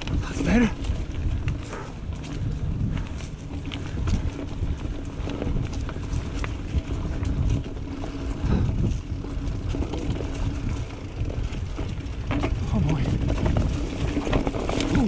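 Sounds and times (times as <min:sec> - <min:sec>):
bike clicks and rattles: 0:00.0 - 0:15.0
tyres rumbling: 0:00.0 - 0:15.0
wind on microphone: 0:00.0 - 0:15.0.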